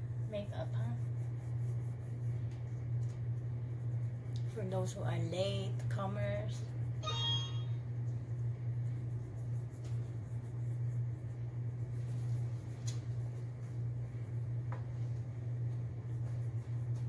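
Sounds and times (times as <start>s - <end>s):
low hum of room equipment: 0.0s - 17.0s.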